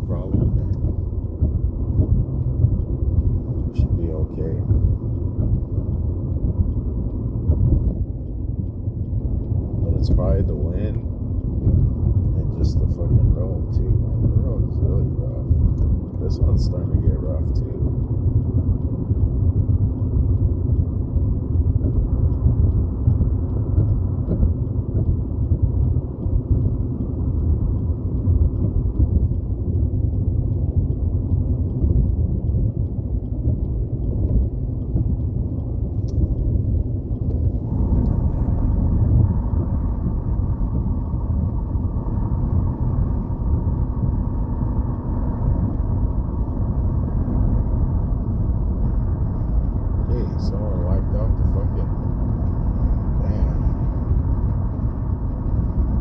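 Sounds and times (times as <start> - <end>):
faint steady hum: 0.0 - 56.0
road rumble inside moving car: 0.0 - 56.0
wind: 0.0 - 56.0.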